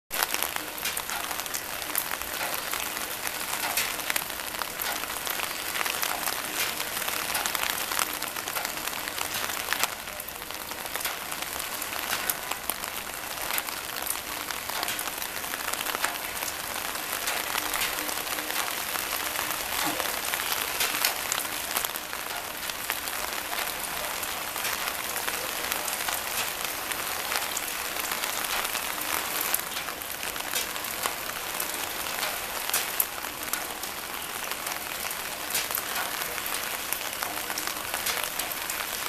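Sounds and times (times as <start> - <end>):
crackling drips: 0.1 - 39.0.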